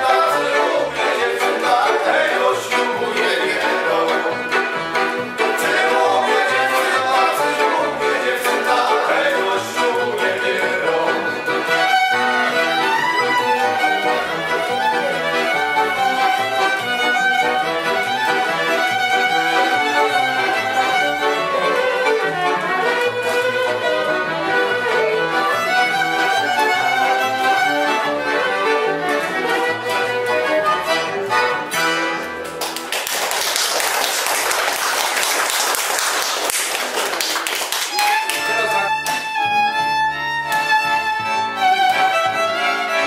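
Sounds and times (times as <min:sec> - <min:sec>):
fiddle melody: 0:00.0 - 0:32.7, 0:37.4 - 0:43.0
accordion: 0:00.0 - 0:32.9, 0:37.5 - 0:43.0.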